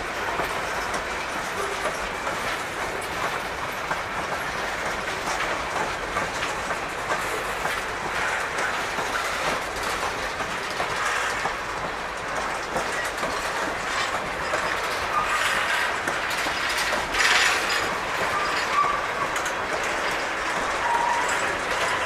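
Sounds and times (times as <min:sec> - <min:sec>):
train wheels rumbling: 0:00.0 - 0:22.0
wheels clicking over rail joints: 0:00.0 - 0:22.0.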